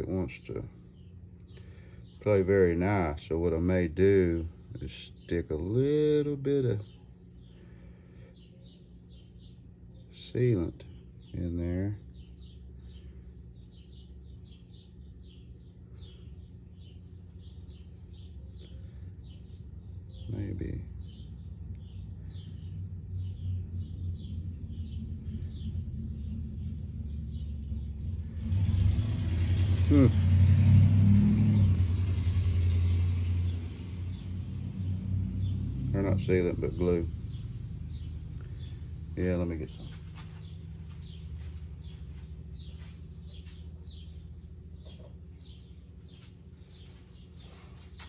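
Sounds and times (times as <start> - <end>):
bird chirping: 0.0 - 3.1, 4.4 - 30.7, 31.4 - 48.0
steady low hum: 0.0 - 48.0.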